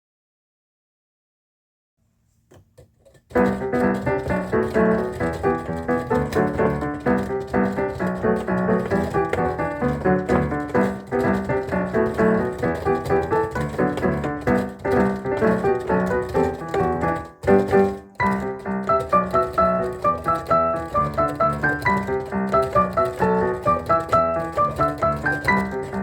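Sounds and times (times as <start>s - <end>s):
piano melody over chords: 3.3s - 26.0s.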